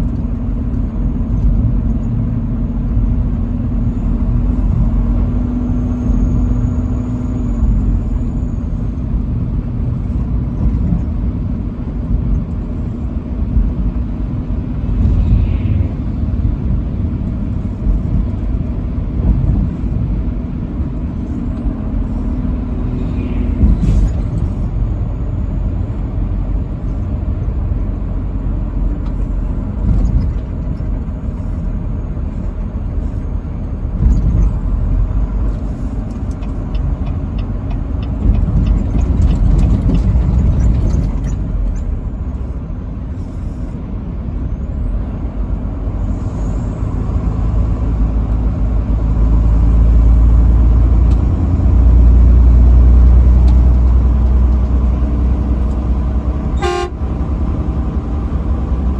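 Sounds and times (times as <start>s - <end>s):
road and engine noise: 0.0s - 58.9s.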